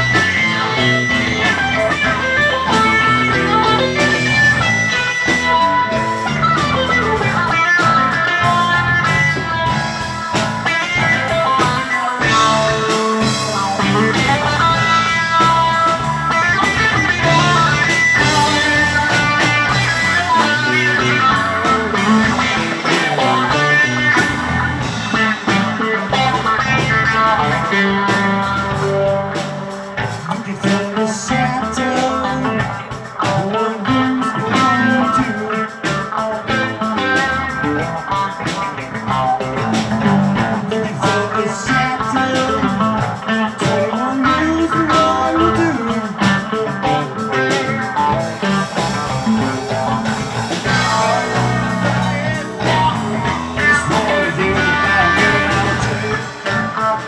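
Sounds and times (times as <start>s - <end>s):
bass guitar: 0.0s - 57.0s
drum kit: 0.0s - 57.0s
electric lead guitar: 0.0s - 57.0s.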